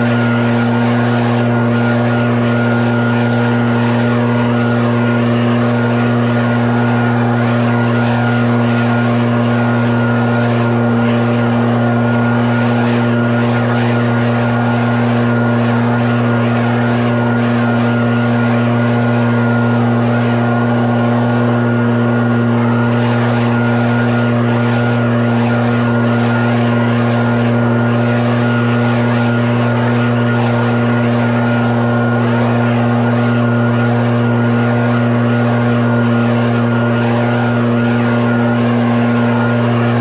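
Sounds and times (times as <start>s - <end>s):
leaf blower running: 0.0s - 40.0s.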